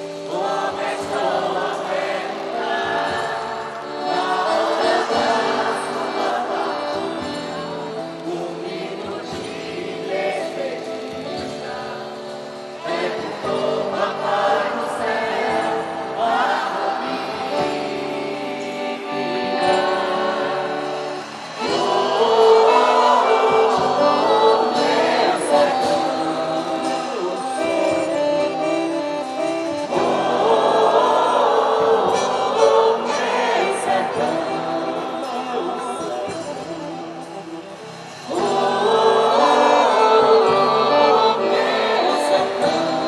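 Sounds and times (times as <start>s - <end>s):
choir singing held notes: 0.0s - 43.0s.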